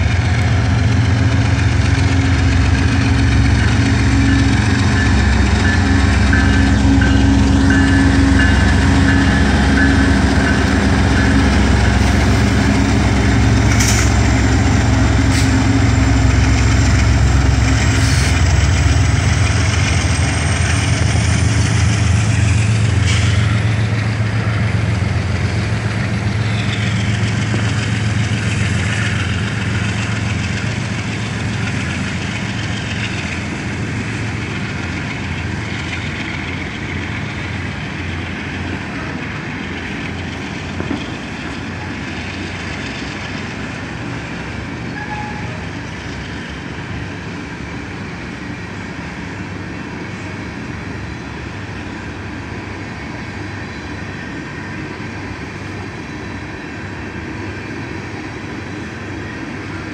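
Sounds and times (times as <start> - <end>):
diesel locomotive engine drone: 0.0 - 59.9
freight cars rumbling by: 0.0 - 59.9.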